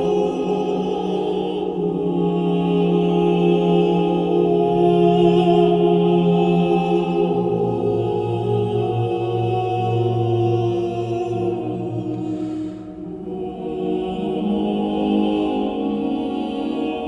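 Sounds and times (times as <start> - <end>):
slow ambient music chords: 0.0 - 17.0.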